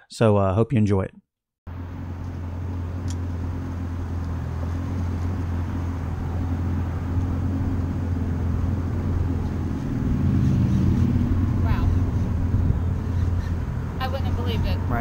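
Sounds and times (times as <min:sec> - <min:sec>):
boat engine idling: 0:01.7 - 0:15.0.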